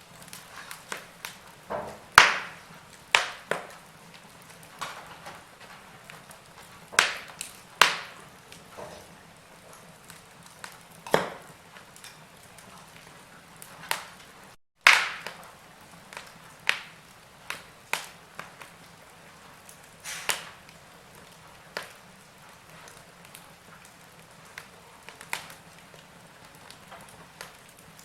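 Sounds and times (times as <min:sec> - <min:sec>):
low hiss of fire: 0:00.0 - 0:28.0
wood fire crackling and popping: 0:00.0 - 0:28.0.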